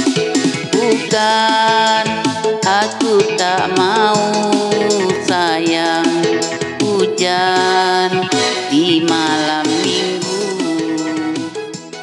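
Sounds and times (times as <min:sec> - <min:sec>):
melody with sliding notes over chords: 0:00.0 - 0:12.0.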